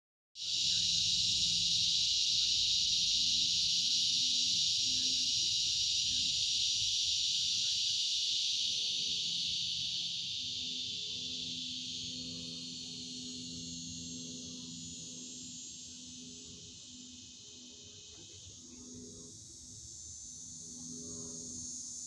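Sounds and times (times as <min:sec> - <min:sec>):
insect chorus buzzing: 0:00.4 - 0:22.0.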